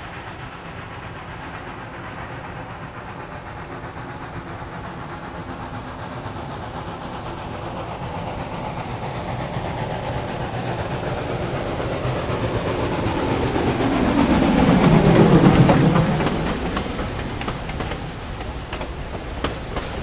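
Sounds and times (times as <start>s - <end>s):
steam locomotive passing: 0.0s - 20.0s
coaches rolling on rails: 0.2s - 20.0s.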